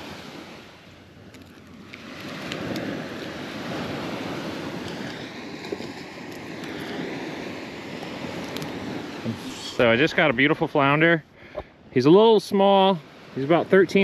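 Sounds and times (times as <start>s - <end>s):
surf washing onto beach: 0.0s - 14.0s.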